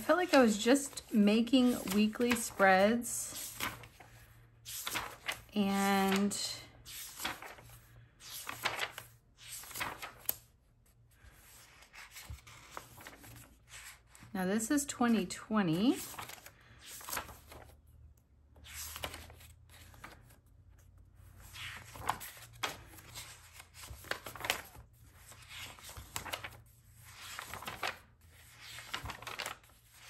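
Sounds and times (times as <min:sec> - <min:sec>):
notebook pages turning: 0:00.2 - 0:02.7, 0:03.3 - 0:10.5, 0:11.3 - 0:14.2, 0:15.9 - 0:17.8, 0:18.6 - 0:30.0.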